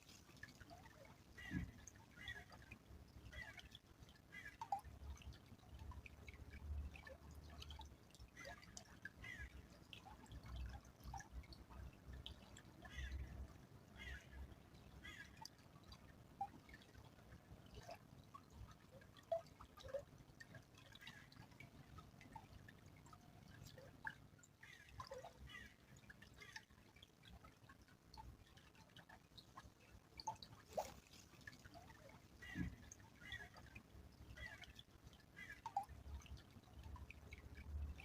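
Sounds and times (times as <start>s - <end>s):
stream trickling faintly: 0.0s - 38.0s
water drips plinking: 0.0s - 38.0s.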